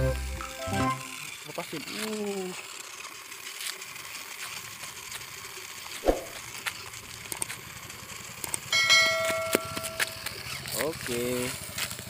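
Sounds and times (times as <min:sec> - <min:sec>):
toy car running over gravel: 0:01.1 - 0:12.0.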